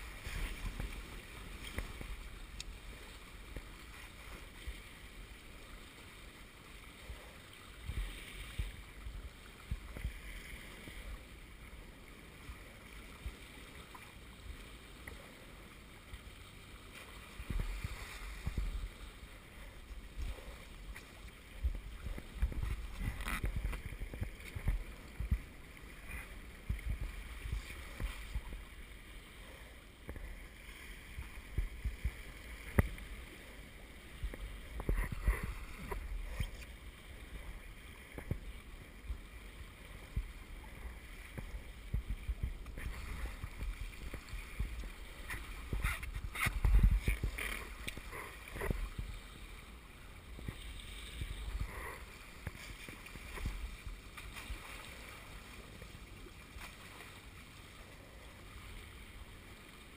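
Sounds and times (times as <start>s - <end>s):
water rushing past hulls: 0.0s - 59.9s.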